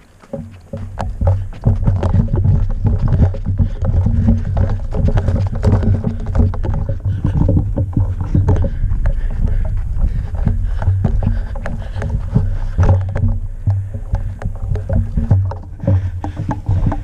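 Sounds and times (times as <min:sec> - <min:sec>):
footsteps on dry dirt: 0:00.0 - 0:17.0
gear and branches scraping: 0:00.0 - 0:17.0
heavy uneven rumble: 0:00.0 - 0:17.0.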